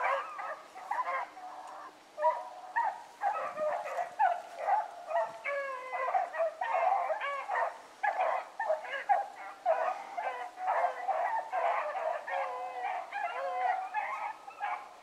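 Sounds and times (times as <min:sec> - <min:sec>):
hounds baying: 0:00.0 - 0:15.0.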